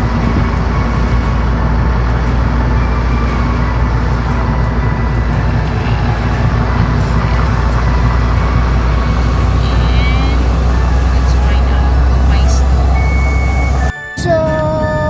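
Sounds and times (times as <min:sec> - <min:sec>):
road and engine rumble in cabin: 0:00.0 - 0:15.0.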